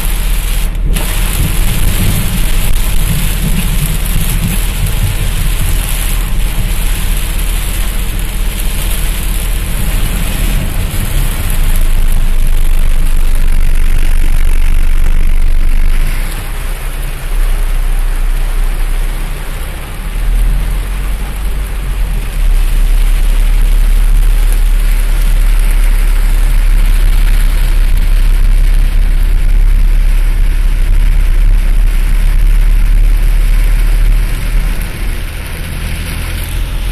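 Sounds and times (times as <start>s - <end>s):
constant deep rumble: 0.0s - 36.9s
heavy rain on car roof: 0.0s - 36.9s.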